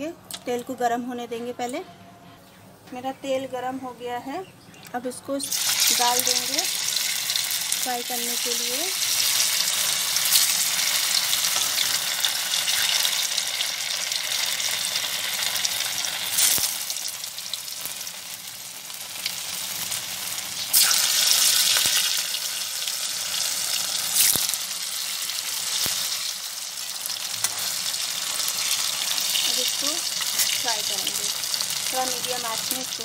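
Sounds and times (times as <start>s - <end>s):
food sizzling in hot oil: 5.4s - 33.0s.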